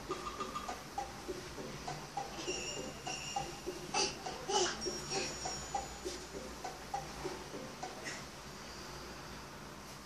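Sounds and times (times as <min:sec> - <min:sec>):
faint looping tune: 0:00.0 - 0:09.9.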